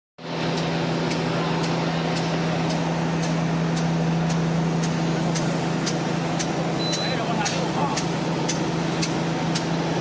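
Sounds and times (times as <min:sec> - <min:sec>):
faint regular ticking: 0:00.5 - 0:09.7.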